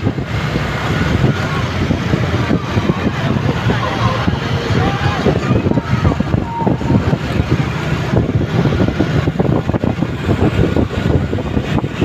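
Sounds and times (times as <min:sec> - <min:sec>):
heavy vehicle running: 0:00.0 - 0:12.0.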